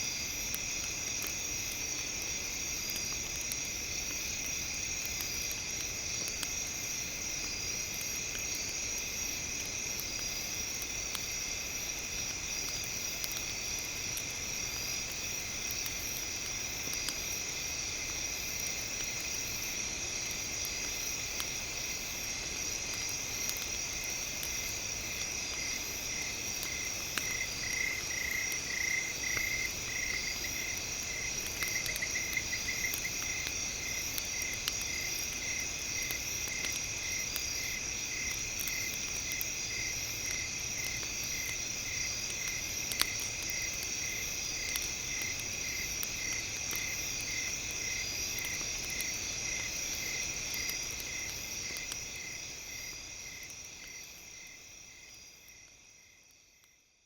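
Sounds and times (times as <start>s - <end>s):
insects chirring: 0.0s - 56.7s.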